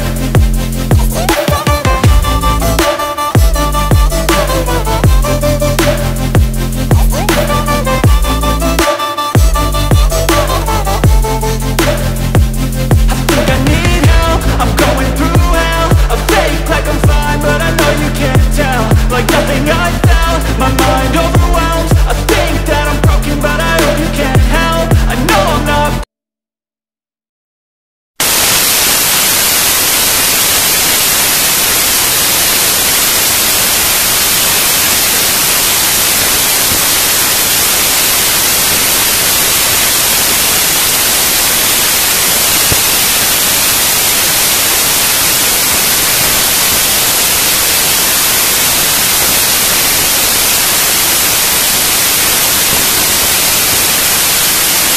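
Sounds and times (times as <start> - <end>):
loud static hiss: 0.0 - 26.0, 28.2 - 54.9.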